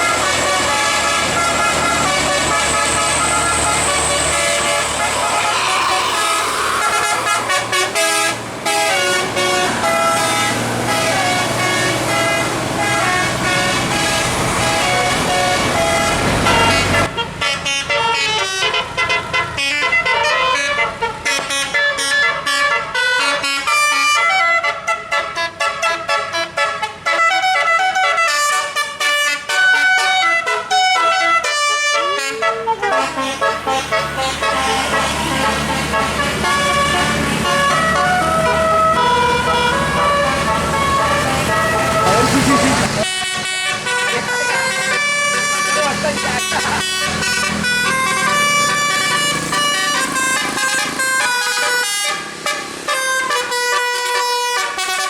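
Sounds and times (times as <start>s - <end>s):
musical air horn playing a tune: 0.0s - 55.0s.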